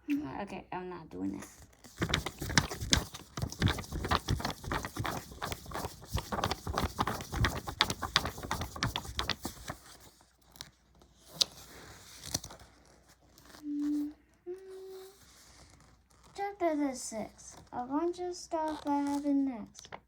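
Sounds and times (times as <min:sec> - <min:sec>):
book pages rustling and turning: 0:01.3 - 0:20.0.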